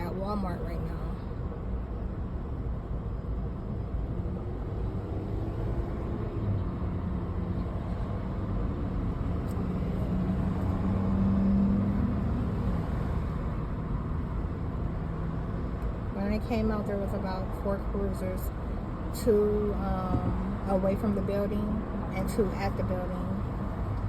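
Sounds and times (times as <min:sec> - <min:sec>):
car engine hum: 0:00.0 - 0:24.0
road noise: 0:00.0 - 0:24.0.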